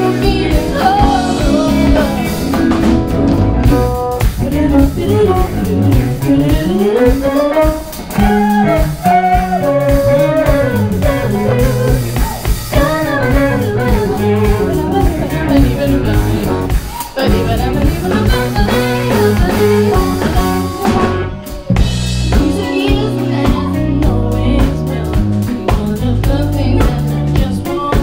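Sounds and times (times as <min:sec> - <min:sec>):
bending melody line: 0:00.0 - 0:27.6
drum kit: 0:00.0 - 0:28.0
electric bass: 0:00.0 - 0:28.0.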